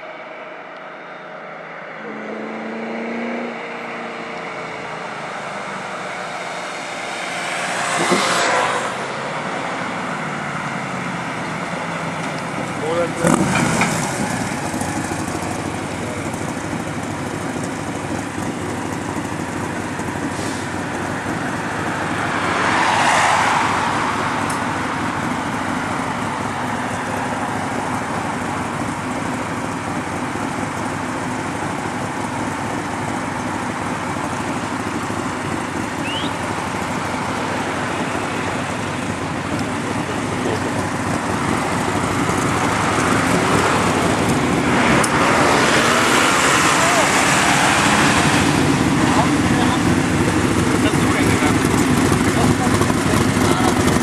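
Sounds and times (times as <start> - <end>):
road noise: 0.0 - 54.0
car engine running: 2.0 - 54.0.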